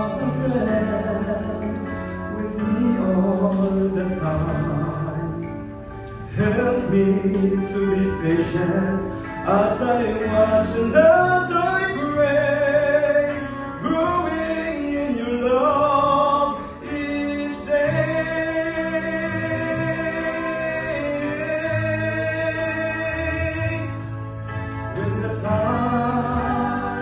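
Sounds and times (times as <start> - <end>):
man singing into a microphone: 0.0 - 24.2, 24.8 - 27.0
backing music: 0.0 - 27.0.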